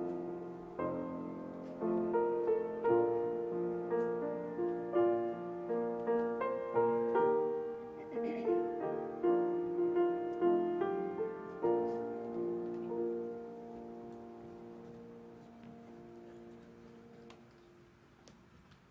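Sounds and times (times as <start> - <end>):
piano notes and chords: 0.0 - 18.2.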